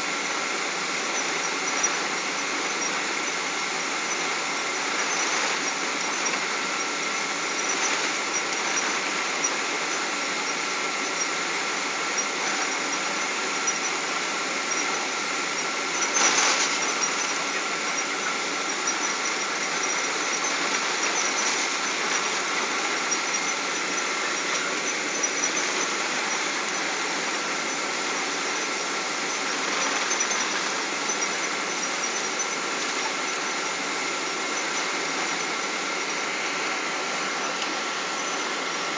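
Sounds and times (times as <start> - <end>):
thin high whine: 0.0 - 38.9.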